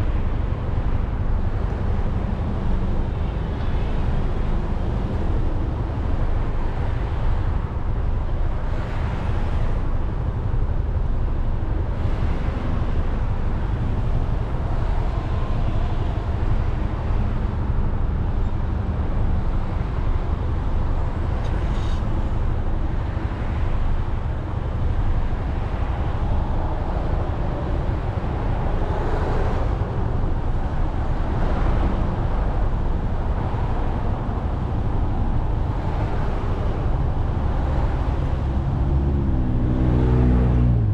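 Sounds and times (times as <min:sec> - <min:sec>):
passing traffic: 0:00.0 - 0:40.9
road noise: 0:00.0 - 0:40.9.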